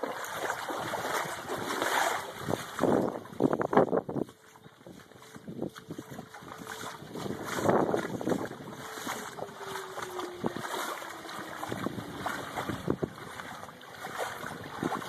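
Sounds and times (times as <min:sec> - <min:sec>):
floodwater running: 0:00.0 - 0:15.0
sharp splashes and patters: 0:00.0 - 0:15.0
wind buffeting microphone: 0:00.0 - 0:15.0.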